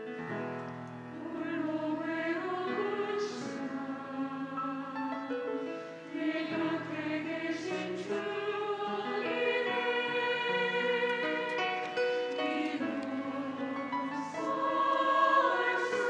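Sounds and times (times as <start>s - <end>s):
church choir singing: 1.0s - 16.0s.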